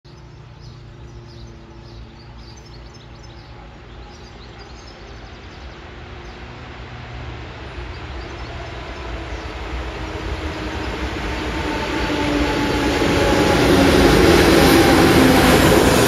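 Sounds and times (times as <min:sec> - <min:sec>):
birds chirping: 0:00.0 - 0:16.0
approaching train rumbling: 0:00.1 - 0:16.0.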